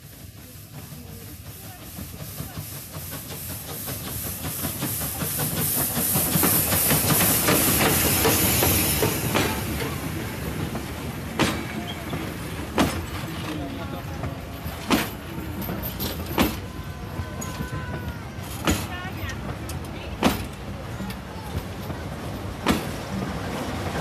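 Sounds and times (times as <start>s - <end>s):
steam hiss: 0.0s - 24.0s
train wheels clicking over rail joints: 0.0s - 24.0s
locomotive running gear clanking: 1.8s - 24.0s.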